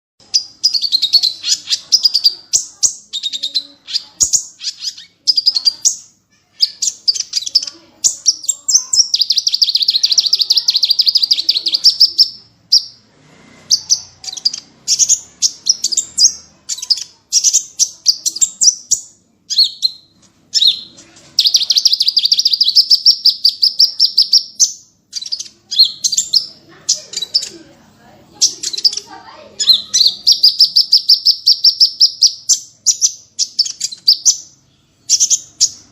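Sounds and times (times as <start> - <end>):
songbirds singing: 0.2 - 35.9.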